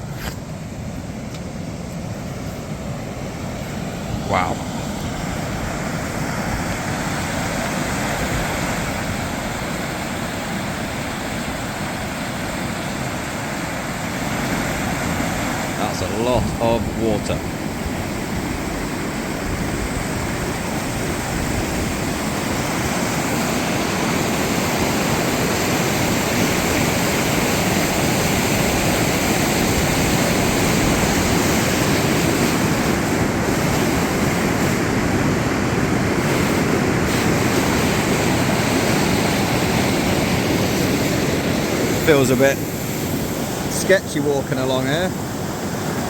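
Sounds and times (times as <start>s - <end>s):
river floodwater rushing: 0.0s - 46.0s.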